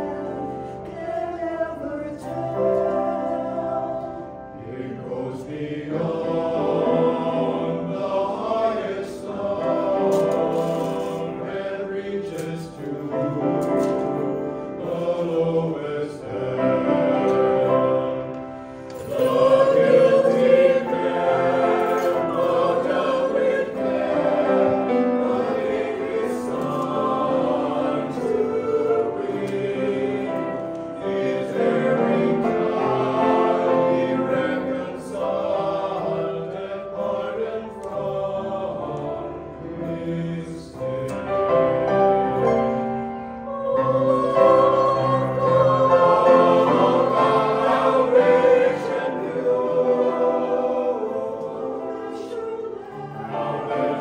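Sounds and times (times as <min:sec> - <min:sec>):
choir singing a hymn: 0:00.0 - 0:54.0
grand piano: 0:00.0 - 0:54.0.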